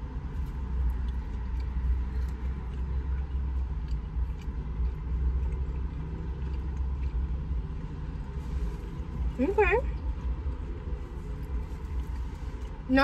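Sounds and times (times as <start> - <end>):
car engine rumble from inside: 0.0 - 13.0
chewing and small clicks: 0.1 - 12.9.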